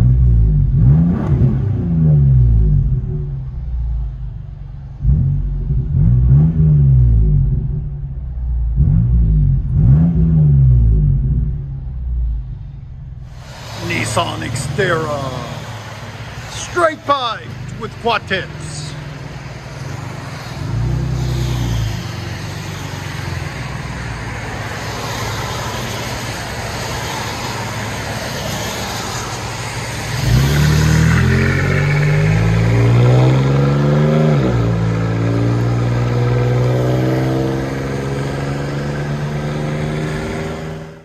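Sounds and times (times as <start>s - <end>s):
car exhaust revving: 0.0s - 25.3s, 29.0s - 41.0s.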